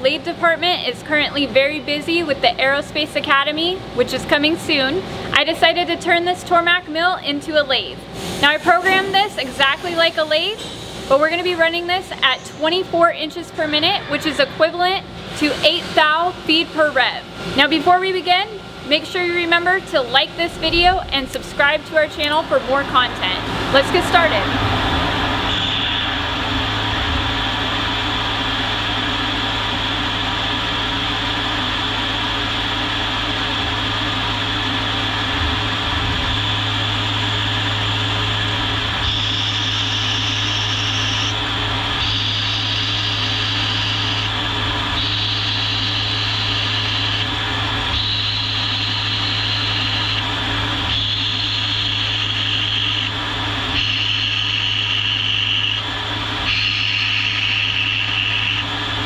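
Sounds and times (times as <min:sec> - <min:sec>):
mill spindle hum: 0:00.0 - 0:59.0.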